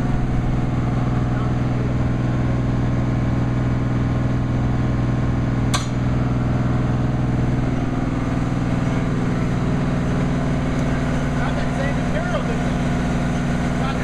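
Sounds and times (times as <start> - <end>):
drilling equipment engine running: 0.0 - 14.0.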